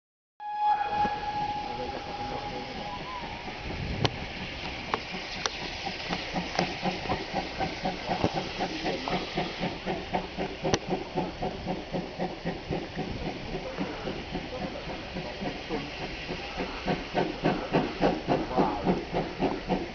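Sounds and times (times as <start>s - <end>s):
steam locomotive exhaust beats: 0.4s - 19.9s
steam hiss: 0.6s - 19.9s.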